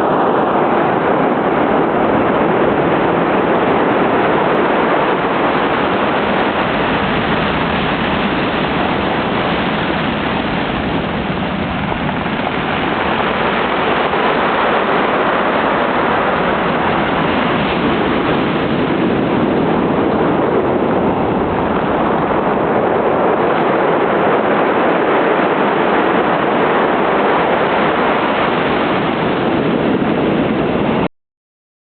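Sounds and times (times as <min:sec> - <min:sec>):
surf waves breaking: 0:00.0 - 0:31.1.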